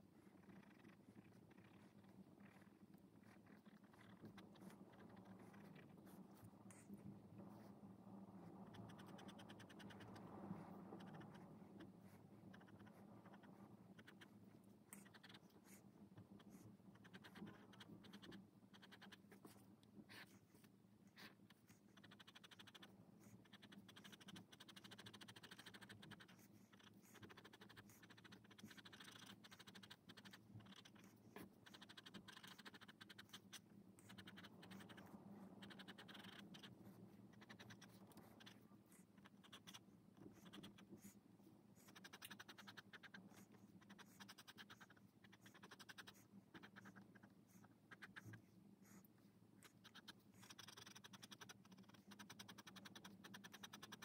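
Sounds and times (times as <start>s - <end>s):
pen scratching on paper: 3.2s - 7.8s, 8.4s - 41.2s, 41.8s - 54.0s.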